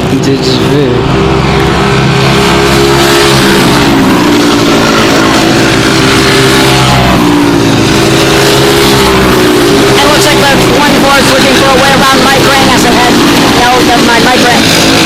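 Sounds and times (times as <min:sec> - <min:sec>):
go-kart engines at high revs: 0:00.0 - 0:15.0.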